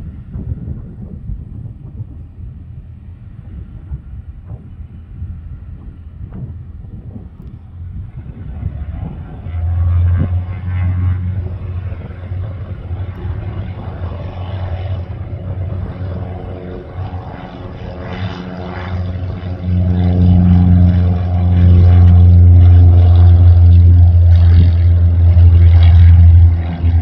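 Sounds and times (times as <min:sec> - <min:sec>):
propeller engine drone: 0:00.0 - 0:27.0.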